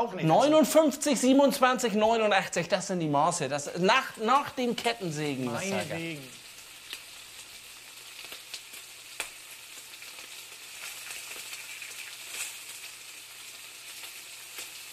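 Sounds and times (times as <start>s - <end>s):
food frying sizzle: 0.4s - 14.9s.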